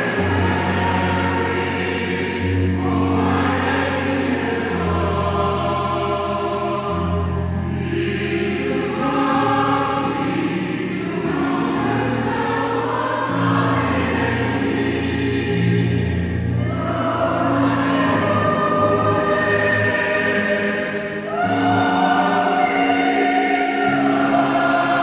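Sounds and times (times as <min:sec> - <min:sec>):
mixed choir singing: 0:00.0 - 0:25.0
piano accompaniment: 0:00.0 - 0:25.0.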